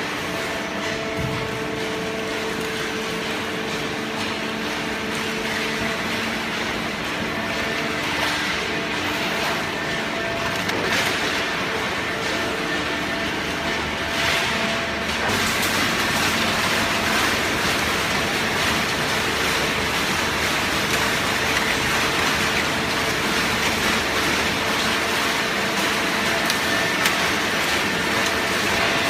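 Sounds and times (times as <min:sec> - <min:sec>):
baling press machine humming: 0:00.0 - 0:29.0.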